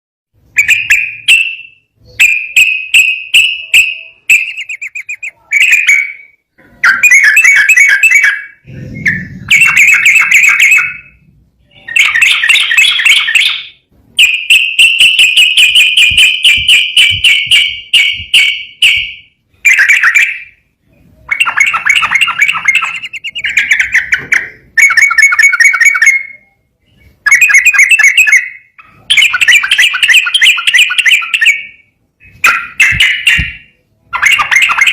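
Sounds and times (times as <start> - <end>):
bulbul singing chattering whistles: 0.6 - 20.6, 21.2 - 34.9.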